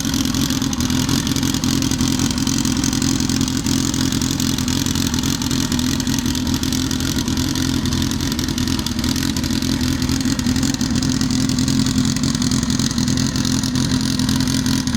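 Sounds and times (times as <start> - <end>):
race car engine running: 0.0 - 14.9.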